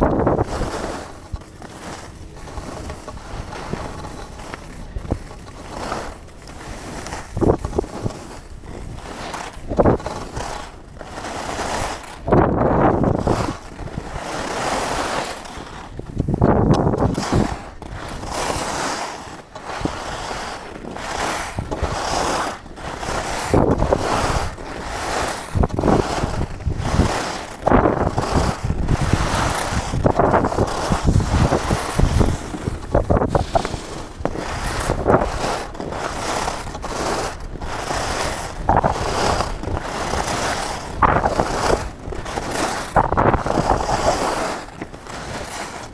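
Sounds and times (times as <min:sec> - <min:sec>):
wind on microphone: 0:00.0 - 0:10.7, 0:11.6 - 0:15.2, 0:15.8 - 0:18.8, 0:21.1 - 0:45.9
skis scraping on snow: 0:00.0 - 0:45.9.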